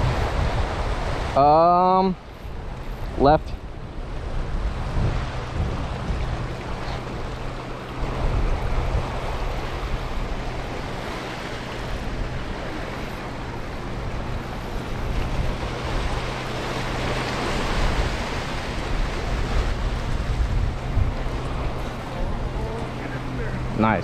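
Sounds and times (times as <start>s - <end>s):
wind buffeting microphone: 0.0s - 1.4s, 2.2s - 24.0s
waves breaking over rocks: 0.0s - 24.0s.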